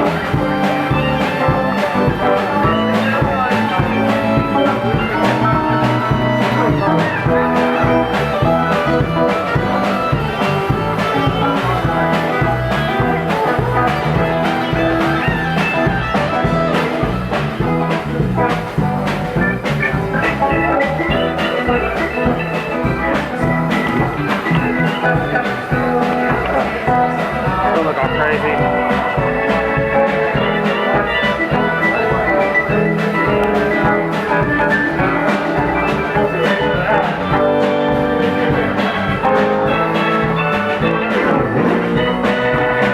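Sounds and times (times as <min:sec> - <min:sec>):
bass guitar: 0:00.0 - 0:42.9
drum kit beat: 0:00.0 - 0:42.9
electric guitar: 0:00.0 - 0:42.9.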